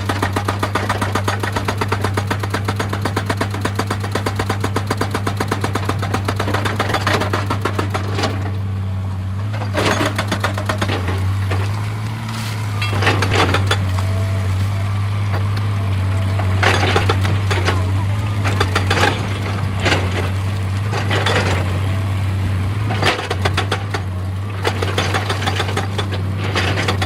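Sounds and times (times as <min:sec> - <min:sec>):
clattering bursts: 0:00.0 - 0:08.6, 0:09.4 - 0:21.9, 0:22.8 - 0:27.0
hydraulic breaker hammering stone: 0:00.0 - 0:08.6, 0:09.5 - 0:11.7, 0:12.8 - 0:14.3, 0:15.3 - 0:22.1, 0:22.8 - 0:27.0
excavator diesel engine running: 0:00.0 - 0:27.0.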